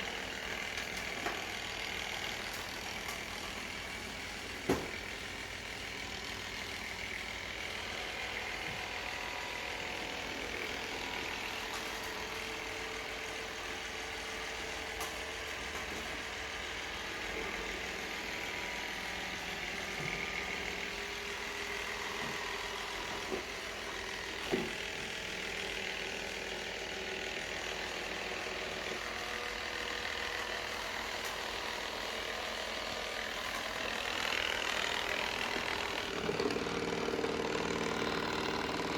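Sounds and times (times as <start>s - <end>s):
robot vacuum motor and brush whir: 0.0s - 38.9s.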